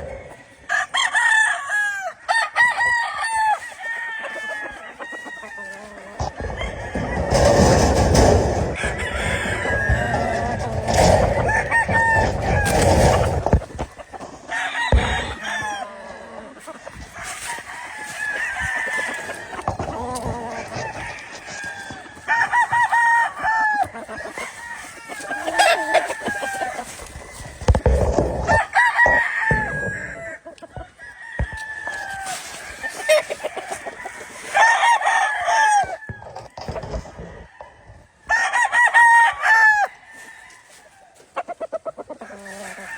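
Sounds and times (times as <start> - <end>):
chickens clucking: 0.0 - 0.7, 3.3 - 38.4, 39.0 - 42.9
roosters crowing: 0.0 - 42.9.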